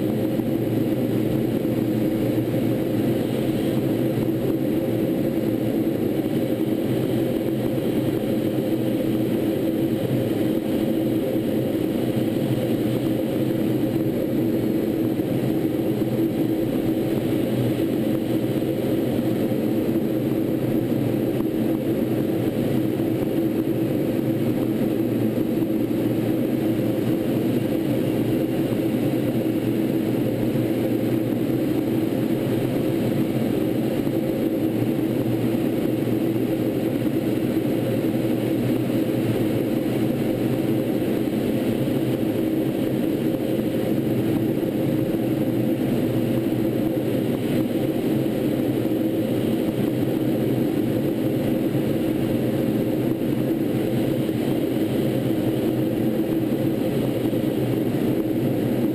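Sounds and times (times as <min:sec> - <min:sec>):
jet engine drone in flight: 0:00.0 - 0:58.9.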